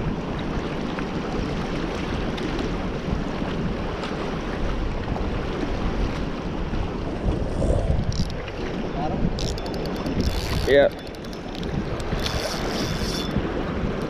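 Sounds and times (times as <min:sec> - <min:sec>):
river rushing: 0:00.0 - 0:14.0
wind buffeting microphone: 0:00.0 - 0:14.0.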